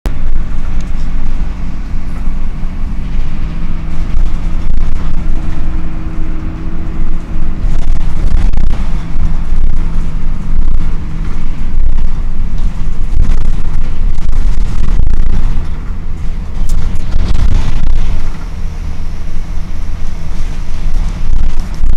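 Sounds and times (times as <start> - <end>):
bus engine cooling fan drone: 0.0 - 21.9
held hum: 0.0 - 21.9.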